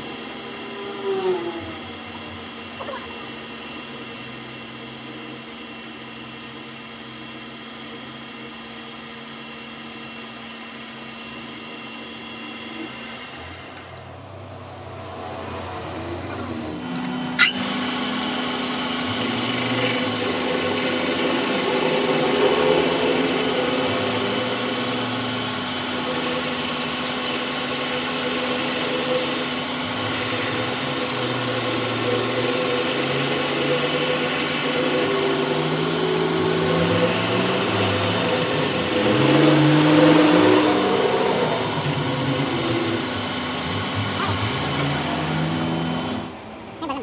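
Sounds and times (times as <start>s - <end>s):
workshop machine humming: 0.0s - 47.0s.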